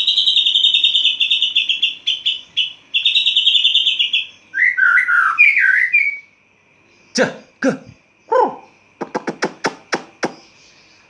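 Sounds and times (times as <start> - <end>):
bird singing trills and whistles: 0.0 - 6.4, 8.2 - 11.0.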